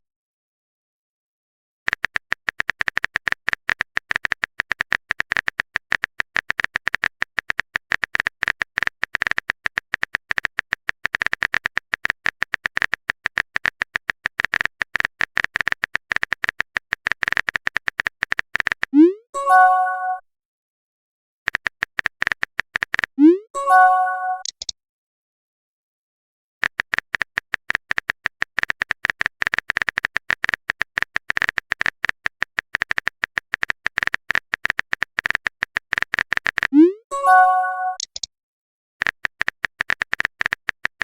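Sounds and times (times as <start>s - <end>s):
keyboard typing clicks: 1.9s - 20.2s, 21.5s - 24.8s, 26.6s - 38.3s, 39.0s - 41.0s.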